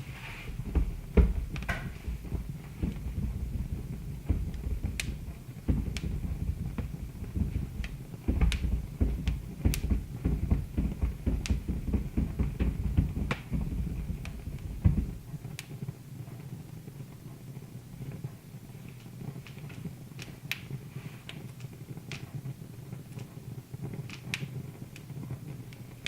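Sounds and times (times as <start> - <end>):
fire pops and snaps: 0.0 - 26.0
low rumble of burning: 0.0 - 26.0.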